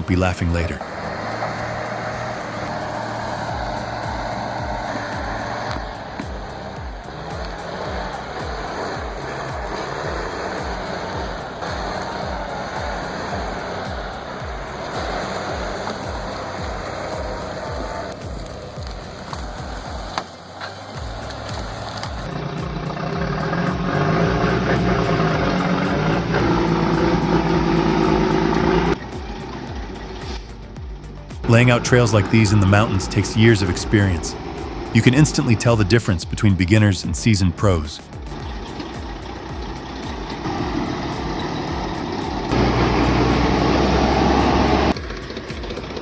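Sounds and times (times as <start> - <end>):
heavy vehicle engine under load: 0.0 - 46.0.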